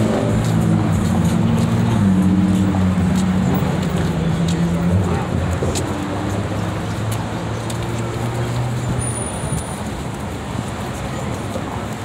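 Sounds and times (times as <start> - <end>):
outdoor traffic noise: 0.0 - 12.0.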